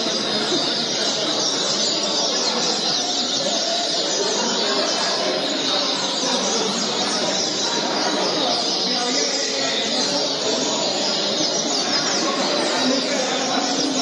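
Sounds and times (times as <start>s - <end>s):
chorus of caged birds singing: 0.0s - 14.0s.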